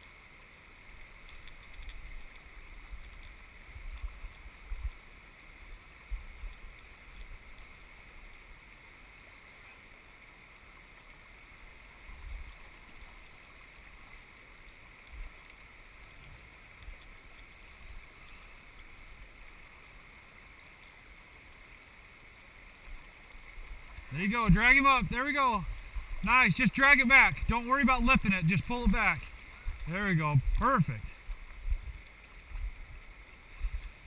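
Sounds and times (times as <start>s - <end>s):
river water rushing over gravel: 0.0s - 34.0s.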